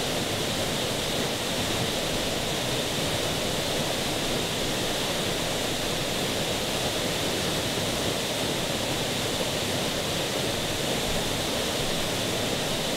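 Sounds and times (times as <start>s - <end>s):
waterfall rushing into pool: 0.0s - 12.9s.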